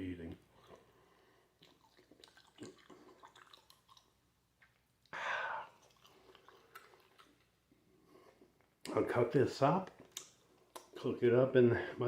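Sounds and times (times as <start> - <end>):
man chewing wetly: 0.2 - 8.9, 9.9 - 11.0.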